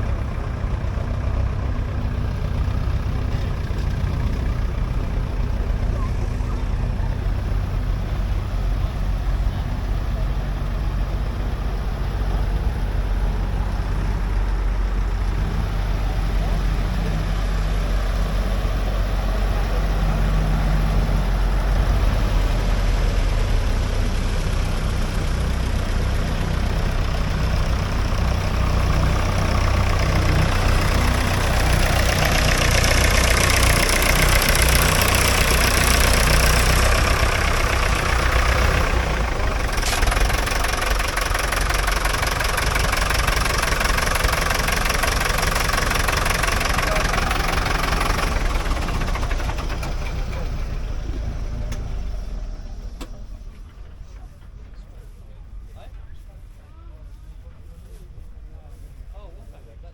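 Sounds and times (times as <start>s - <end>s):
tractor engine throbbing: 0.0s - 59.9s.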